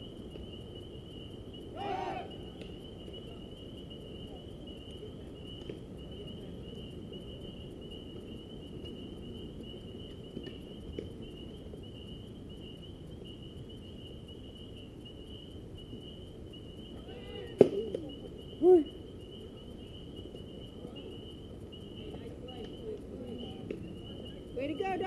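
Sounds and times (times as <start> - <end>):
crickets trilling: 0.0 - 25.0
low background rumble: 0.0 - 25.0
faint clicks: 0.1 - 25.0.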